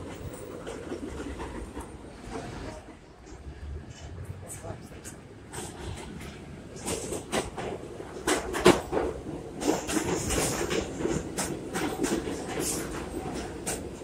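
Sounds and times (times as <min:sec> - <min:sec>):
train rumble: 0:00.0 - 0:14.0
train wheels clattering over rails: 0:00.0 - 0:14.0.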